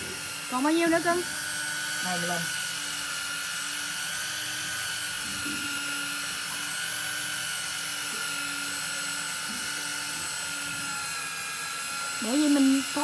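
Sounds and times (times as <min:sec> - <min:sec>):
fishing reel motor whining: 0:00.0 - 0:13.0.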